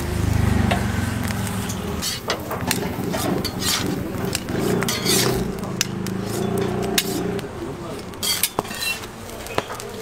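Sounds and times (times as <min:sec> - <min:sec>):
vehicle engine rumbling: 0:00.0 - 0:09.8.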